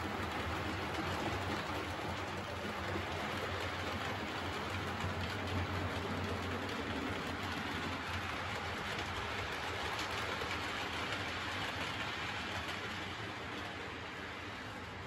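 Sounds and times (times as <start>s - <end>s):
model train wheels rattling: 0.0s - 14.5s.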